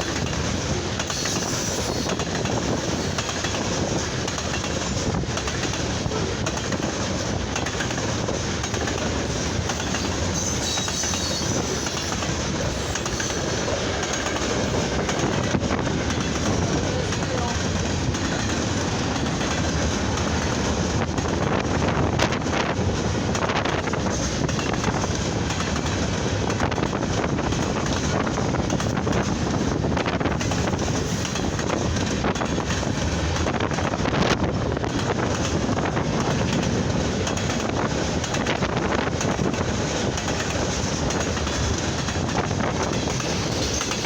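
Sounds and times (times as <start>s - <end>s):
freight train cars rumbling: 0.0s - 44.0s
train wheel clicks: 0.0s - 44.0s
wind buffeting microphone: 0.0s - 44.0s.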